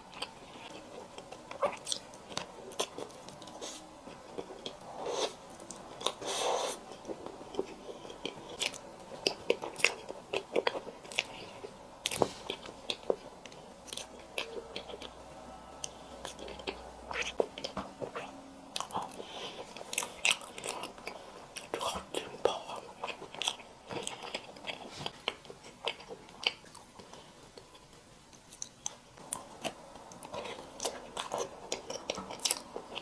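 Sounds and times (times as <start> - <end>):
person biting and chewing food: 0.1 - 15.2, 16.2 - 33.0.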